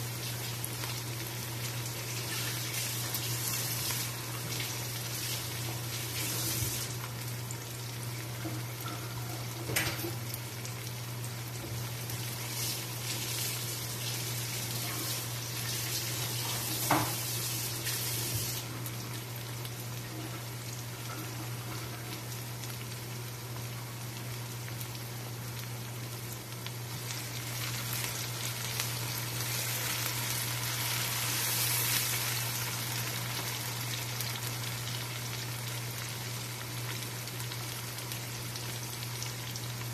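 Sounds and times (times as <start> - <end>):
onions sizzling in hot oil: 0.0 - 39.9.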